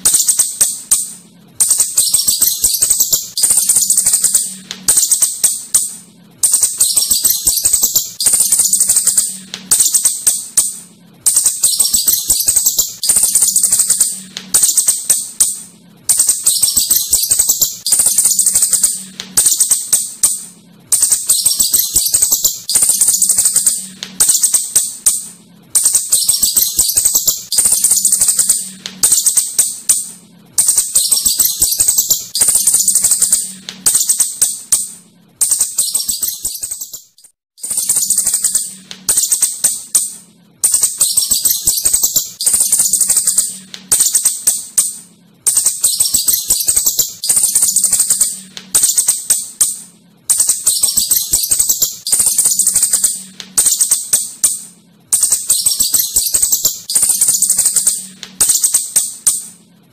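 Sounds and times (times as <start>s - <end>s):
shrew high-pitched clicking chatter: 0.0s - 59.6s.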